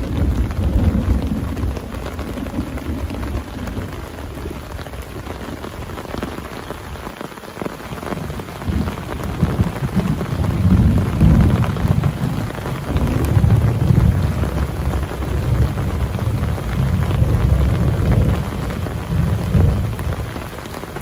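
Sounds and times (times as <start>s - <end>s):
low rumble of thunder: 0.0s - 6.5s, 8.0s - 21.0s
heavy rain pattering: 0.0s - 21.0s.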